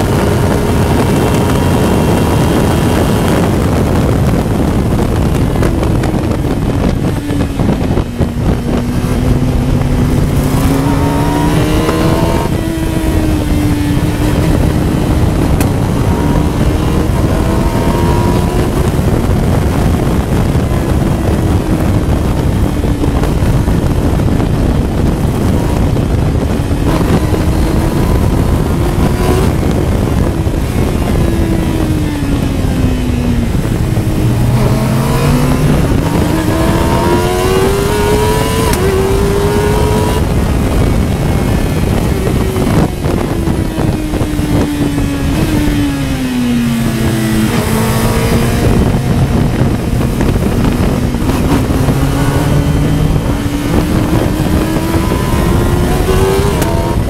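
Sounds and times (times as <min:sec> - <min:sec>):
racing car engine revving: 0:00.0 - 0:57.0
wind rush: 0:00.0 - 0:57.0.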